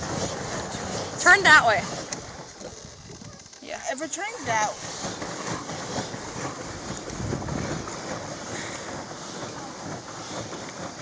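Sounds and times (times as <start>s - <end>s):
water washing around boat: 0.0s - 11.0s
wind buffeting microphone: 0.0s - 11.0s.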